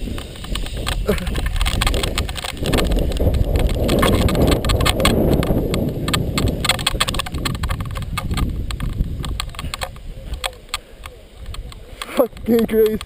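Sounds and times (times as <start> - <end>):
sharp clicks and rattles: 0.0 - 13.0
wind buffeting microphone: 0.0 - 13.0.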